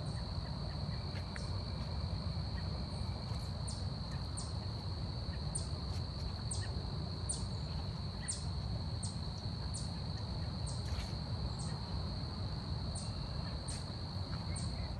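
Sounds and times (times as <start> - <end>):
high insect trill: 0.0 - 14.9.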